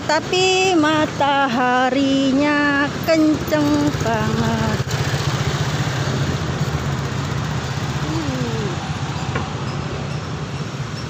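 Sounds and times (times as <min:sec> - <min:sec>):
scooters and cars passing: 0:00.0 - 0:11.0.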